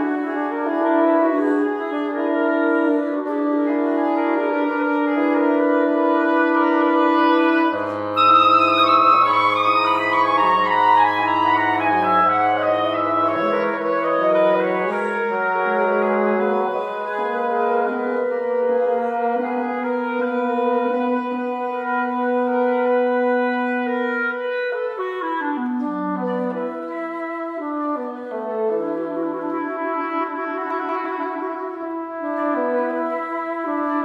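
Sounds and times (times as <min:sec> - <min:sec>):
wind quintet playing: 0:00.0 - 0:34.0.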